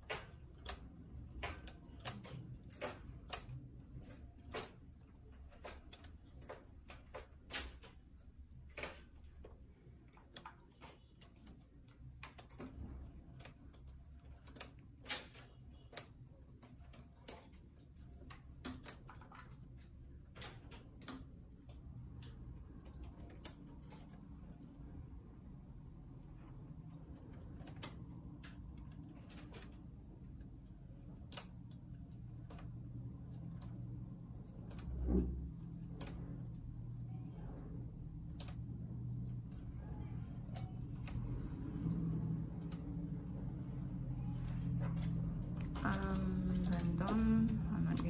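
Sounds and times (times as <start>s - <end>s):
knitting machine needles clicking: 0.0s - 48.0s
low steady hum: 0.0s - 48.0s.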